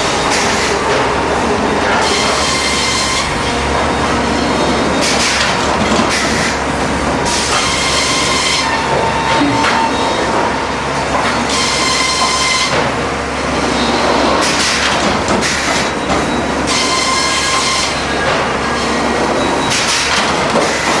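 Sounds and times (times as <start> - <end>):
sawmill machinery din: 0.0 - 21.0.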